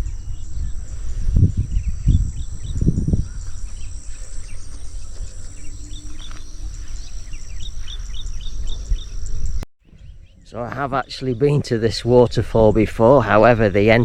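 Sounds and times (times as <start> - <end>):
bird chirps: 0.0 - 12.4.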